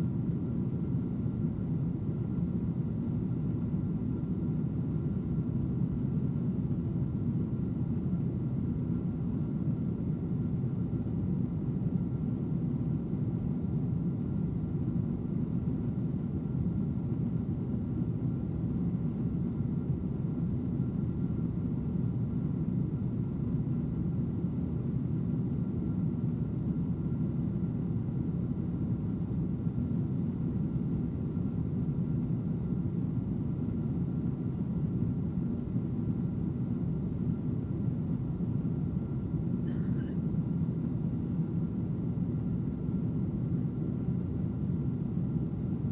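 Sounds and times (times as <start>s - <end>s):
faint steady tone: 0.0s - 45.9s.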